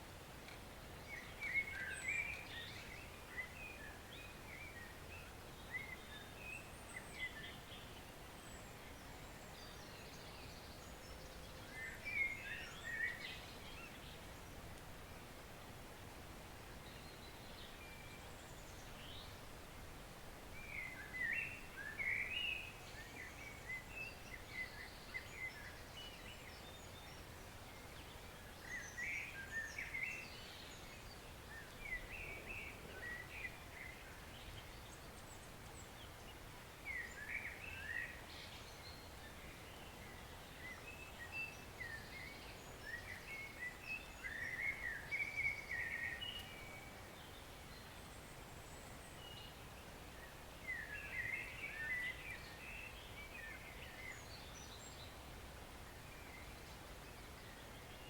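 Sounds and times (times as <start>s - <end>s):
songbird chirping: 0.0s - 15.4s, 16.6s - 58.0s.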